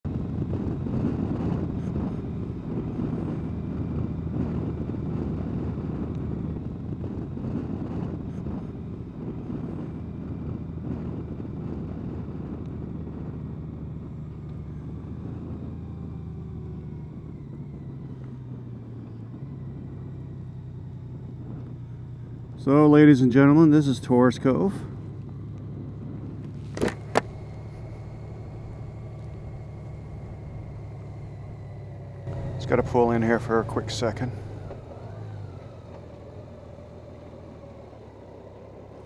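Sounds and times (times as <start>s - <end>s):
motorcycle engine running: 0.0s - 39.0s
wind rushing over microphone: 0.0s - 39.0s.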